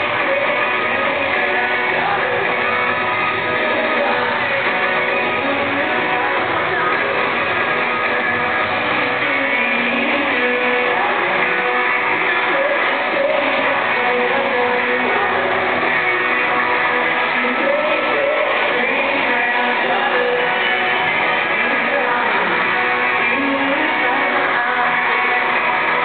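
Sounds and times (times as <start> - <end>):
electric guitars: 0.0 - 26.0
person singing: 0.0 - 26.0
pop-rock band playing live: 0.0 - 26.0.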